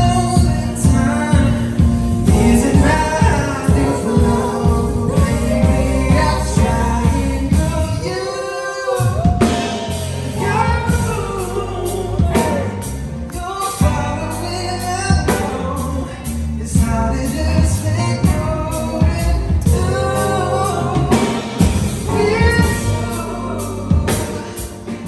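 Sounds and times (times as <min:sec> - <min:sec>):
lead vocal singing: 0:00.0 - 0:25.0
live band playing pop-soul: 0:00.0 - 0:25.0.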